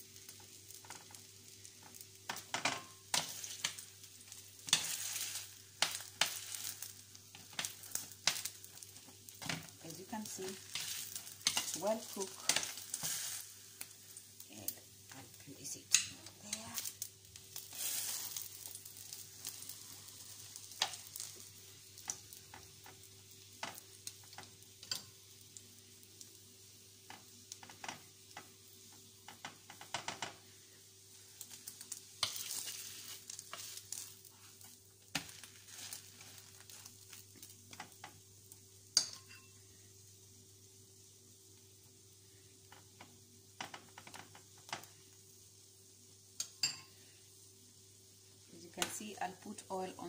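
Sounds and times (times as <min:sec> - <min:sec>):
bread sizzling in oil: 0:00.0 - 0:50.0.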